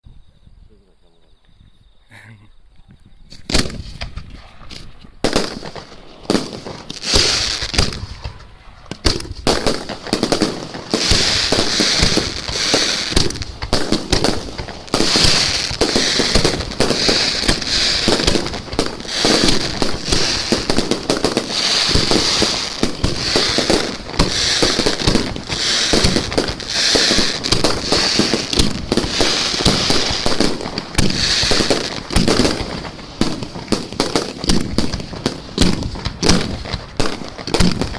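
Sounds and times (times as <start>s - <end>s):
fireworks bangs and crackles: 3.3s - 37.9s
fireworks hissing: 3.3s - 37.9s.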